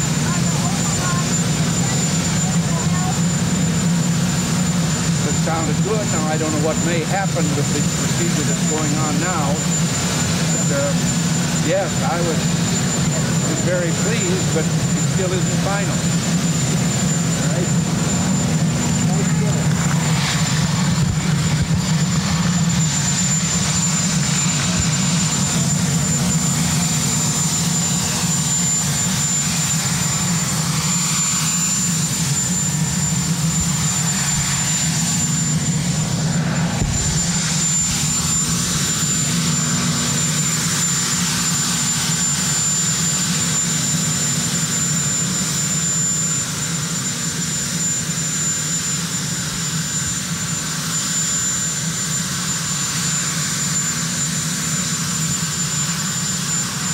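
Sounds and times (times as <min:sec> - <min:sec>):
helicopter engine drone: 0:00.0 - 0:56.9
high-pitched turbine whine: 0:00.0 - 0:56.9.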